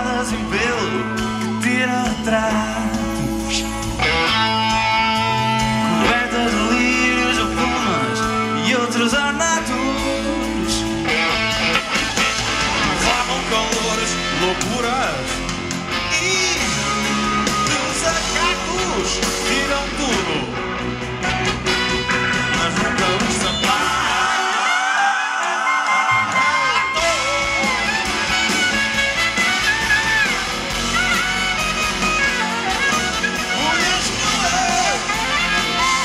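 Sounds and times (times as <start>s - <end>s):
electric guitar: 0.0s - 24.7s, 25.4s - 36.0s
pop-rock band playing: 0.0s - 36.0s.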